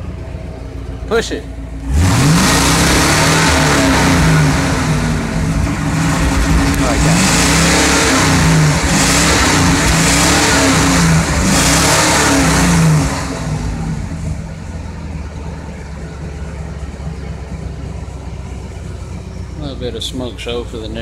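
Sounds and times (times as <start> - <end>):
engine held at high revs: 1.6 - 21.0.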